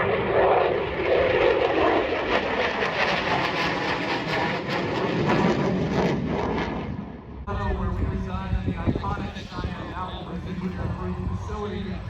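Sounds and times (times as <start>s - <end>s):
fighter jet roar passing: 0.0s - 12.0s.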